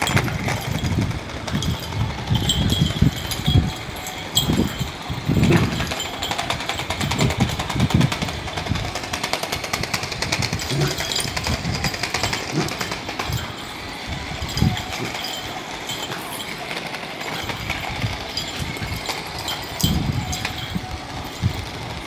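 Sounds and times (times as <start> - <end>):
toy ball clicking: 0.0 - 22.0.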